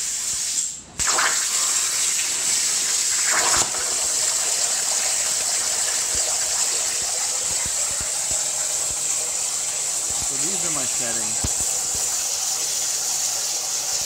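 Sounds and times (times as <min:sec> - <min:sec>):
plasma torch hissing: 0:00.0 - 0:14.0.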